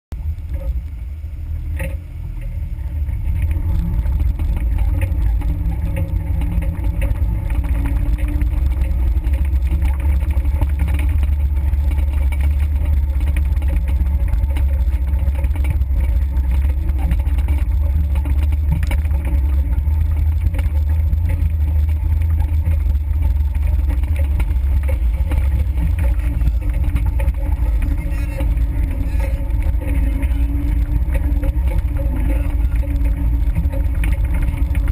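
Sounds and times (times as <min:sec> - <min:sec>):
off-road vehicle engine rumble: 0:00.0 - 0:34.9.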